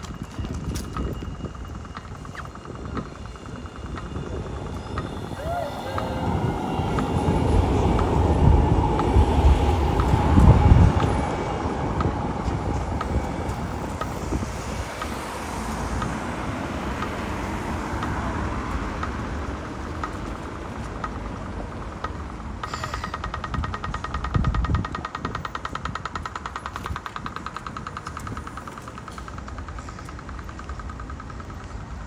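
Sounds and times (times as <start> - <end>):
crossing signal ticking: 0.0 - 32.0
street traffic: 0.0 - 32.0
tram rumbling past: 0.0 - 32.0.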